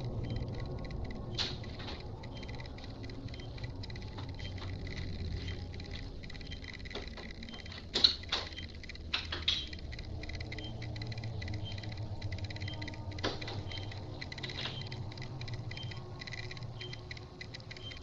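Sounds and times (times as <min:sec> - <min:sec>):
low room tone hum: 0:00.0 - 0:18.0
sharp clicks and knocks: 0:00.0 - 0:18.0.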